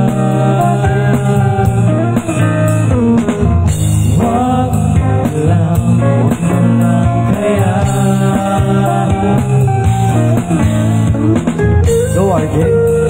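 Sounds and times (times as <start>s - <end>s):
live band playing slow song: 0.0s - 13.0s
person singing: 0.0s - 13.0s.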